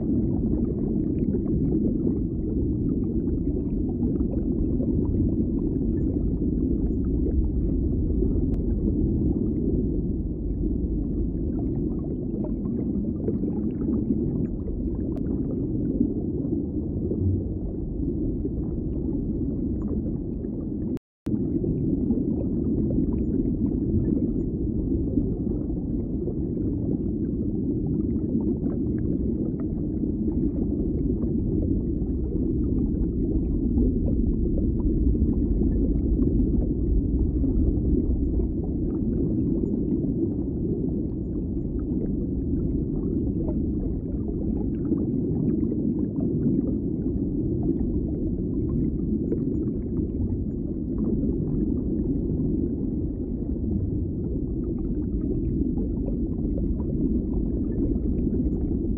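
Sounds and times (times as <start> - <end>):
low dull rumbling: 0.0 - 58.9.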